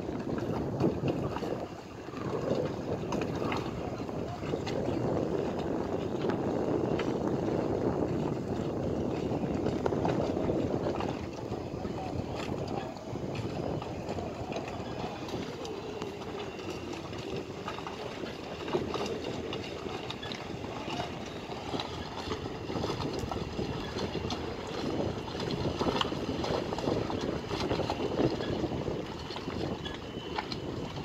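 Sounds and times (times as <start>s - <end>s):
knocks and clicks on boats: 0.0s - 31.0s
low motor rumble: 0.0s - 31.0s.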